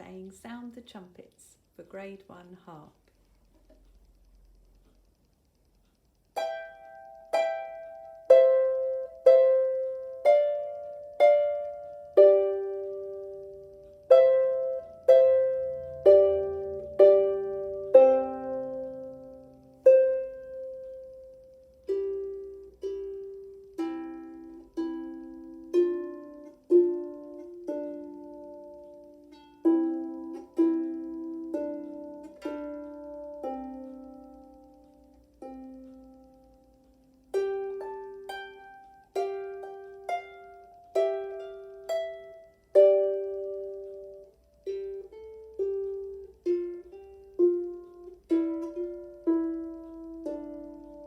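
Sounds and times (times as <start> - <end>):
harp plucked melody: 6.4 - 51.0.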